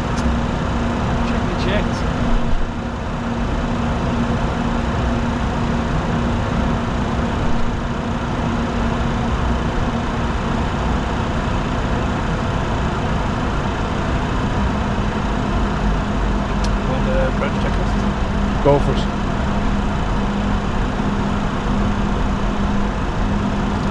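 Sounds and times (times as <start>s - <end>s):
airflow and jet engine noise: 0.0s - 23.9s
steady low hum: 0.0s - 23.9s.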